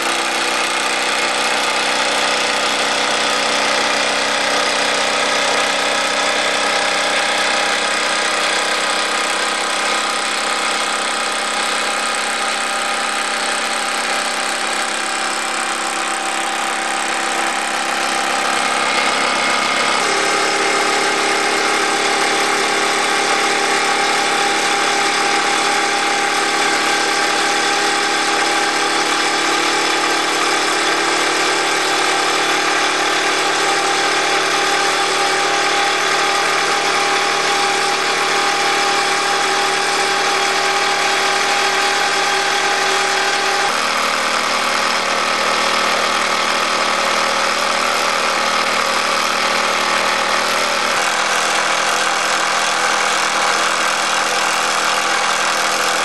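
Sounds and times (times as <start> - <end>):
toy steam engine running: 0.0 - 56.0.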